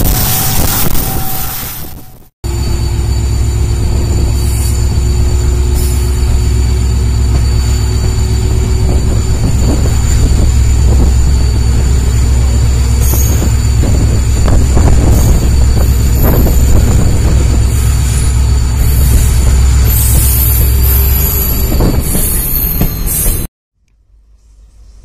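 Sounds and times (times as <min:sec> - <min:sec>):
diesel locomotive rumbling past: 0:00.0 - 0:23.5.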